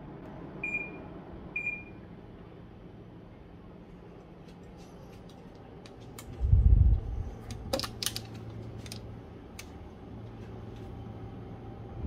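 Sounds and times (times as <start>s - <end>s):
air conditioner blower hum: 0.0s - 12.0s.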